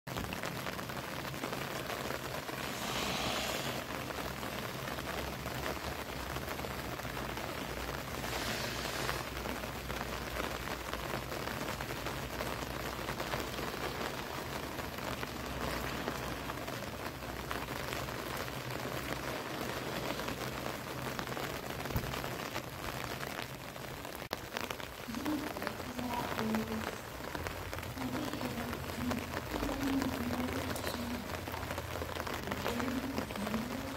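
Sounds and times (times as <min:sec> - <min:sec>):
rain falling on pavement: 0:00.0 - 0:33.9.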